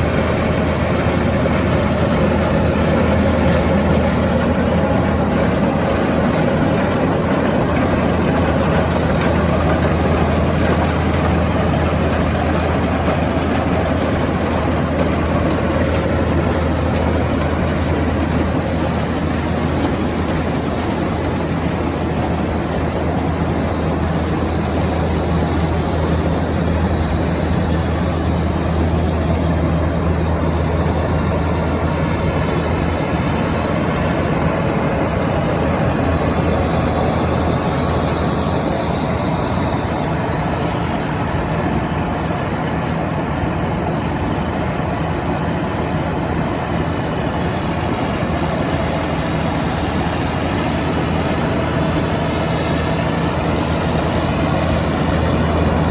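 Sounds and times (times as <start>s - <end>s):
diesel engine running steadily: 0.0s - 55.9s.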